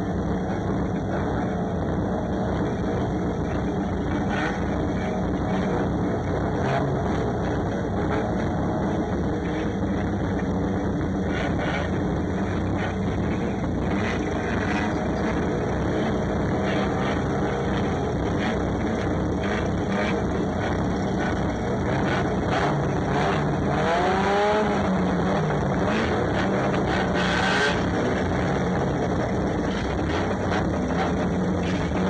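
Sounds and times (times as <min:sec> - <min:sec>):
race car engine running: 0:00.0 - 0:32.0.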